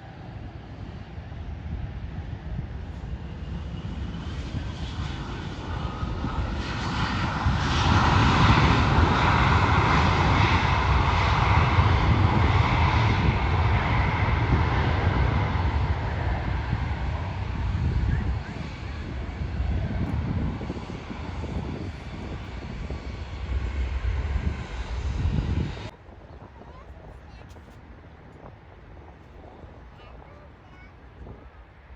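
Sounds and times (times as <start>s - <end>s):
jet engines passing by: 0.0s - 31.9s.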